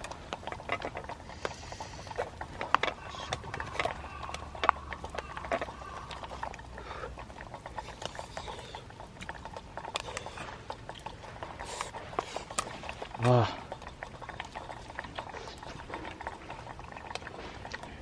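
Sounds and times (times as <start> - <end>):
person chewing and slurping: 0.0 - 18.0.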